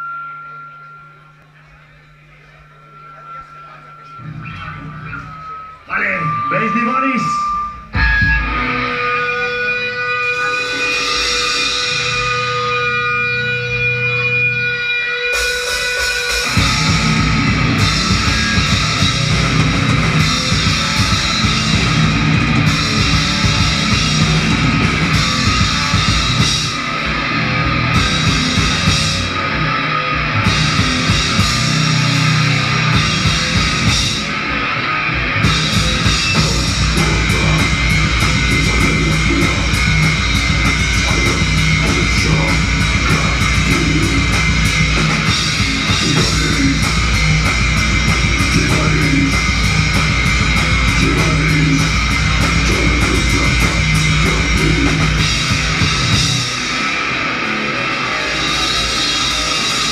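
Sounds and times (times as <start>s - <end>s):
heavy rock band playing live: 4.1s - 59.9s
cymbal-driven drum beat: 7.8s - 29.7s, 30.3s - 34.6s, 35.2s - 57.4s.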